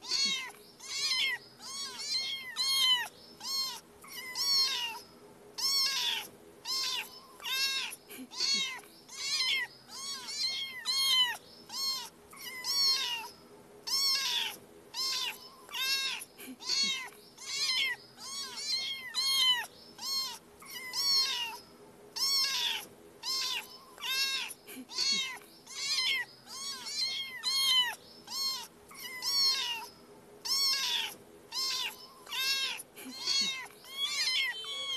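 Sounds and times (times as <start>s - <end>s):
kitten meowing: 0.0s - 5.0s, 5.6s - 13.3s, 13.9s - 21.6s, 22.2s - 34.9s.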